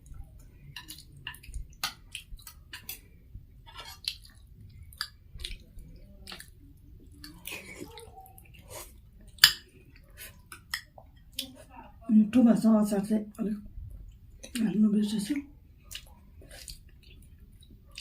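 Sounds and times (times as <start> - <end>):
chewing food: 0.0 - 12.0, 13.9 - 18.0.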